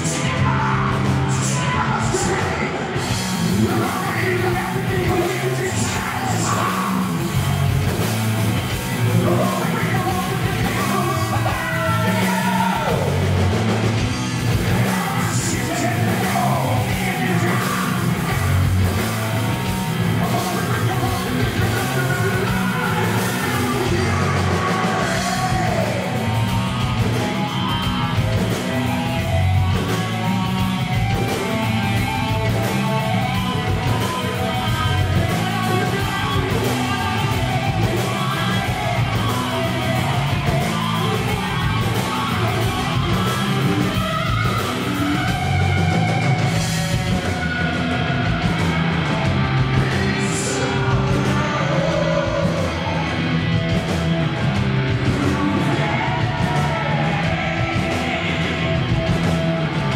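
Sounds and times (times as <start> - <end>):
man singing: 0.0 - 8.0, 8.7 - 13.5, 14.5 - 53.8, 54.8 - 59.9
live rock band: 0.0 - 59.9.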